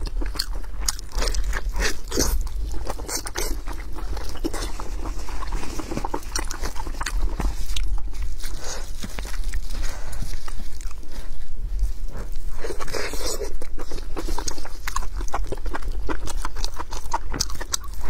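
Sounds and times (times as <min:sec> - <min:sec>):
biting and chewing meat: 0:00.0 - 0:18.0.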